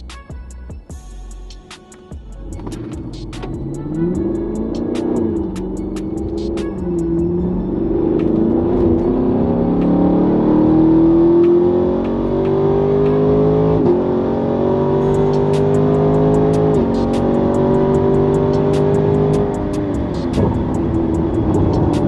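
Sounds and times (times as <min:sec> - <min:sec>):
car engine accelerating hard: 0:02.4 - 0:22.0.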